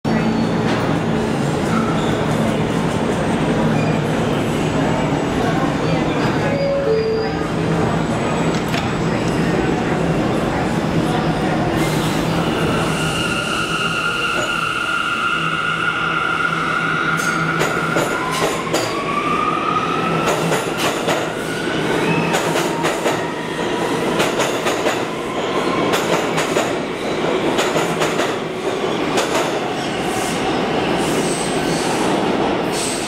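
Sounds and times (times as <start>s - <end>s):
subway train rolling past: 0.1s - 33.0s.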